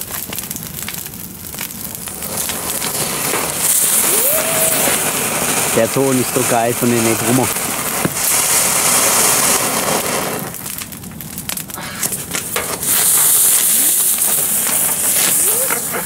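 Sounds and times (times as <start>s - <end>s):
crackling pops: 0.0s - 16.0s
firework fountain hissing: 0.0s - 16.0s.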